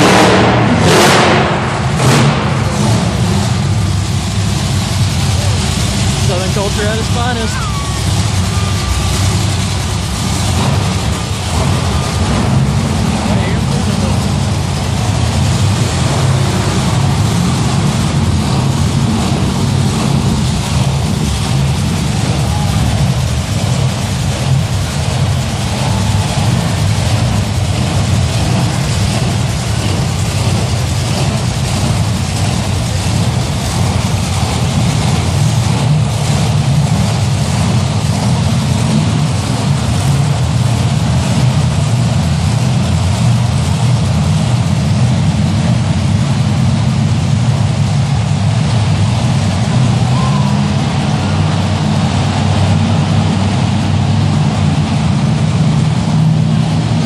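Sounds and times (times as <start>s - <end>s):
monster truck engines rumbling: 0.0s - 57.0s.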